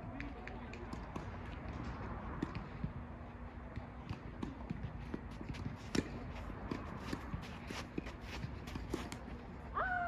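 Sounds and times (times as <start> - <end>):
footsteps and shuffles on court: 0.0 - 9.6.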